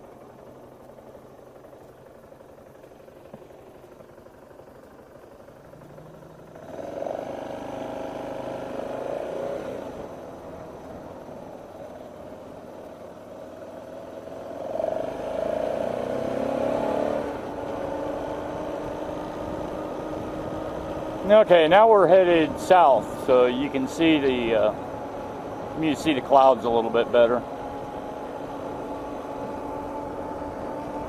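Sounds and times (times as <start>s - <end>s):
vehicle engine accelerating: 5.3s - 31.0s.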